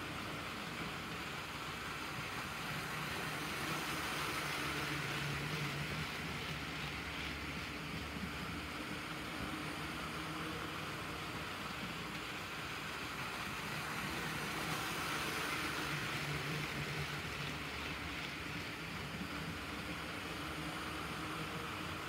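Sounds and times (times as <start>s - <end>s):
model train whirring on rails: 0.0s - 22.0s.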